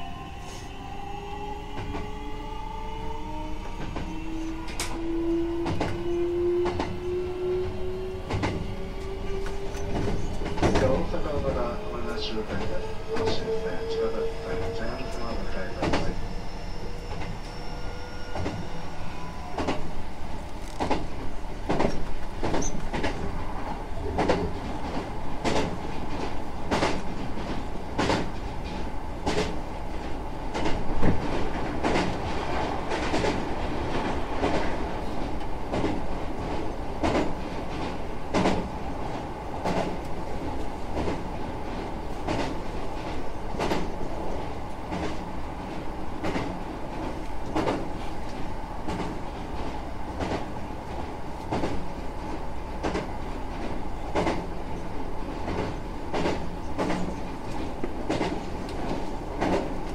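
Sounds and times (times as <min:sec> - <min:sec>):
train running gear rumble: 0:00.7 - 0:59.9.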